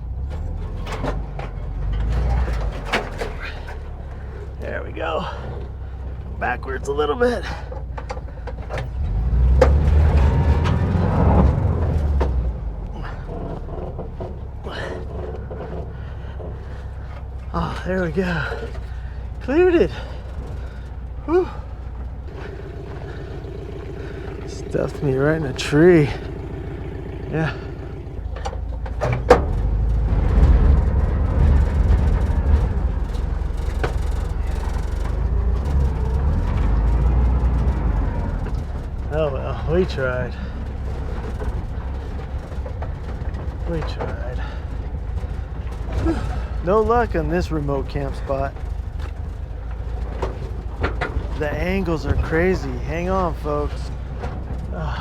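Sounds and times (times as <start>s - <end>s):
van engine revving: 0.0s - 55.0s.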